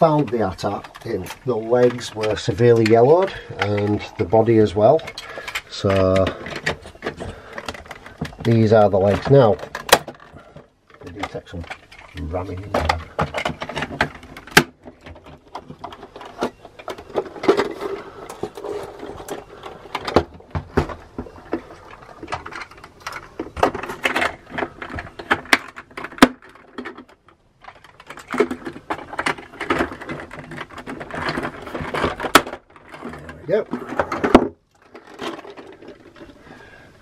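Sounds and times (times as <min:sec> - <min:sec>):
plastic clicks and rattles: 0:00.0 - 0:36.6.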